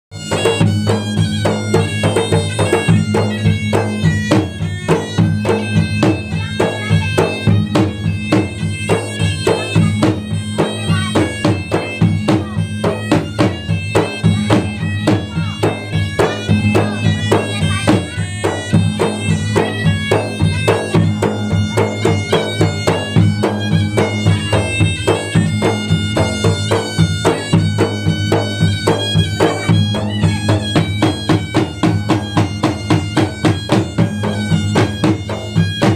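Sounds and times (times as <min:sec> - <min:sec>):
fast drumming: 0:00.1 - 0:35.9
nasal double-reed pipe: 0:00.1 - 0:35.9.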